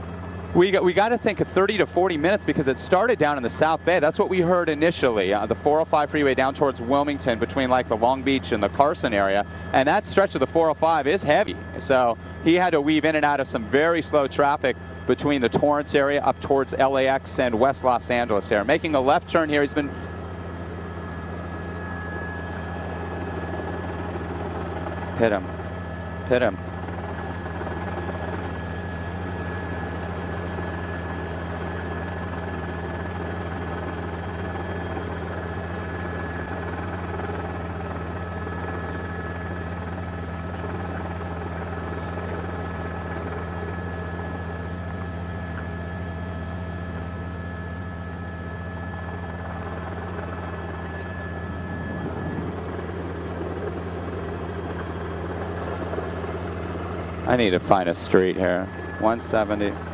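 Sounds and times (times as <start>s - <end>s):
faint high whines: 0.0s - 59.9s
helicopter rotor and engine drone: 0.0s - 59.9s.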